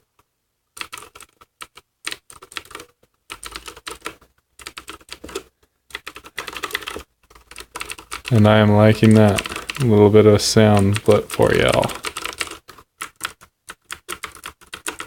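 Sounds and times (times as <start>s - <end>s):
mechanical keyboard typing: 0.8s - 15.0s.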